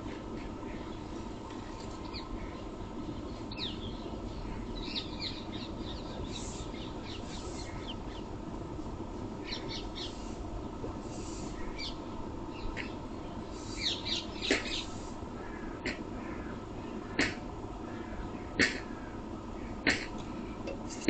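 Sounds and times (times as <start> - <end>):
small birds chirping: 0.0 - 8.4, 9.4 - 21.0
steady background hum: 0.0 - 21.0.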